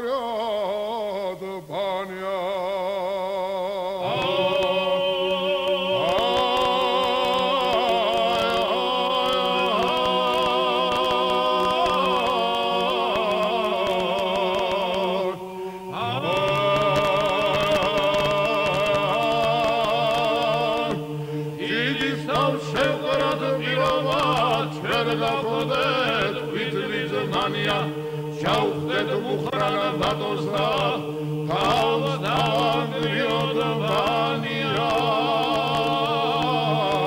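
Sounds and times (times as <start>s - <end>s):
male choir singing: 0.0s - 37.0s.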